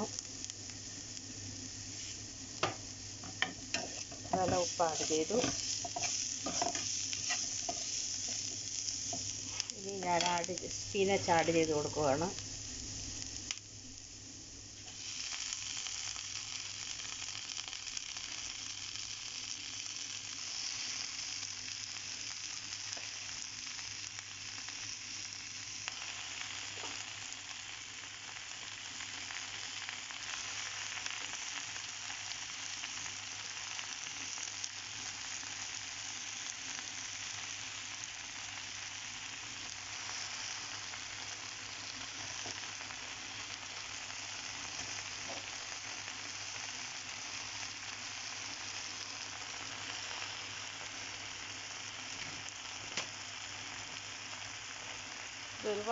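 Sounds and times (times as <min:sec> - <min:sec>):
spinach sizzling in frying pan: 0:00.0 - 0:55.9.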